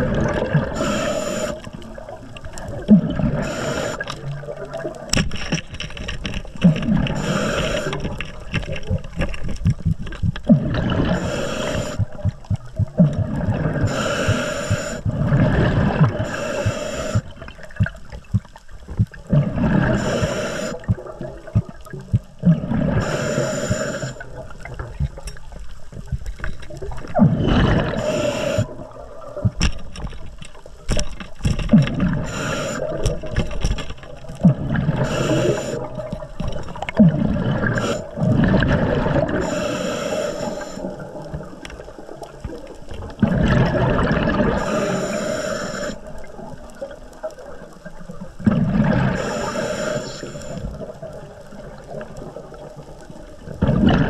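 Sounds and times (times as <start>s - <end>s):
hissing rush of bubbles: 0.0s - 5.1s, 6.7s - 9.1s, 10.3s - 18.5s, 19.1s - 25.0s, 26.8s - 29.6s, 31.7s - 33.4s, 34.2s - 54.0s
water gurgling and bubbling: 0.0s - 54.0s.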